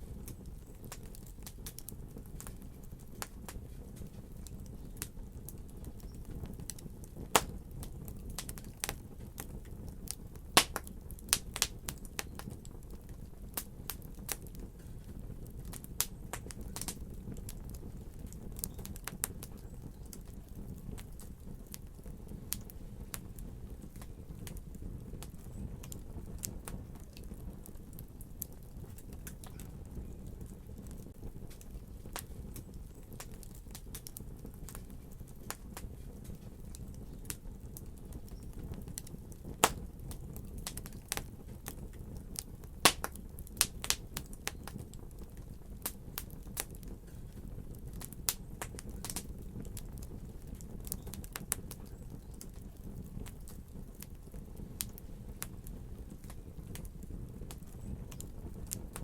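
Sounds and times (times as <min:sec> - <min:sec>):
fire crackling: 0:00.0 - 0:59.0
fire popping: 0:00.0 - 0:59.0.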